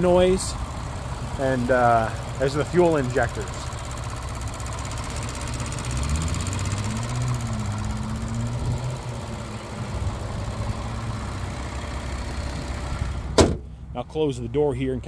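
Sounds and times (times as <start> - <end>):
fuel injectors ticking: 0.0 - 13.9
car engine idling: 0.0 - 15.0.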